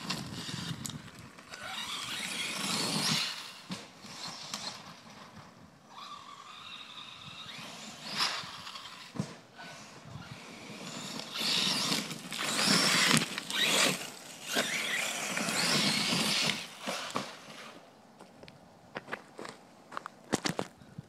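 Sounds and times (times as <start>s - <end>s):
rc truck tyres churning dirt: 0.0s - 20.8s.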